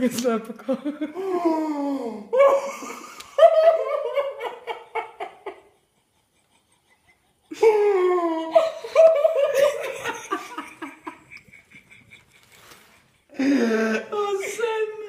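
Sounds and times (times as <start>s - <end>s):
people laughing: 0.6s - 1.7s, 2.4s - 15.0s.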